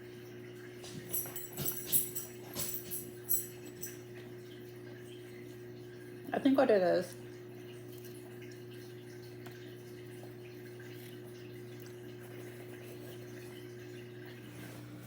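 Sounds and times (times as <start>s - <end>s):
dishwasher motor hum: 0.0s - 15.0s.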